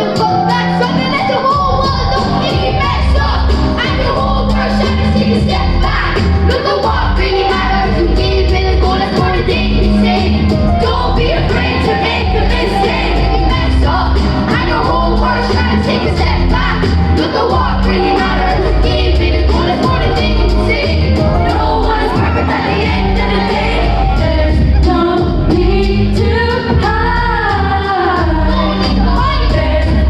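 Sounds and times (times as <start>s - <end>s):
held bass notes: 0.0s - 30.0s
steady drum beat: 0.0s - 30.0s.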